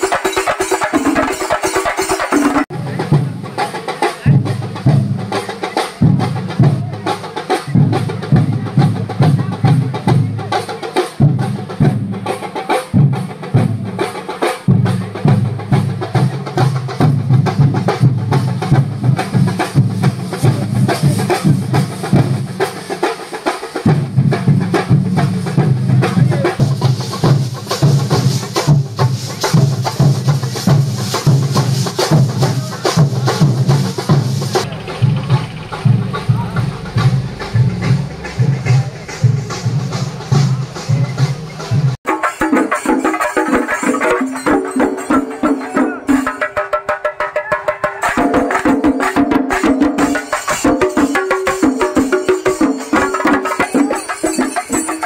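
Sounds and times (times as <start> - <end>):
drums beating fast rhythm: 0.0 - 55.0.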